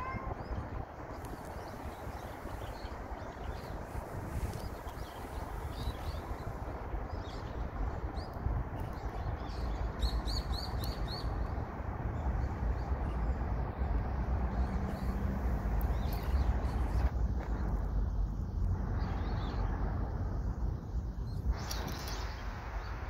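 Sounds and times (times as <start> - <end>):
low outdoor rumble: 0.0 - 23.0
small birds chirping: 0.0 - 23.0.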